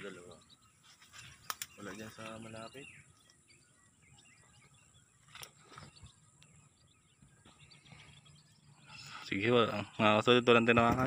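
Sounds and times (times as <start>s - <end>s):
faint bird chirps: 0.0s - 10.9s
open field ambience: 0.0s - 11.0s.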